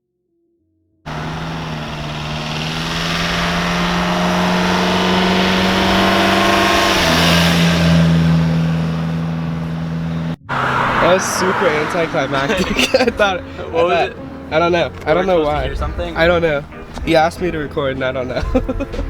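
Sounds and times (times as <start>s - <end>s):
car engine and exhaust running: 1.1s - 19.0s.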